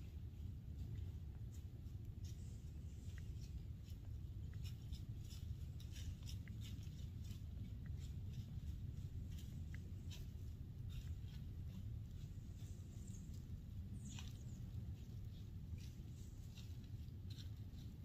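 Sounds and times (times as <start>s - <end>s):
wind rumble on microphone: 0.0s - 18.0s
leaves crackling underfoot: 1.4s - 18.0s.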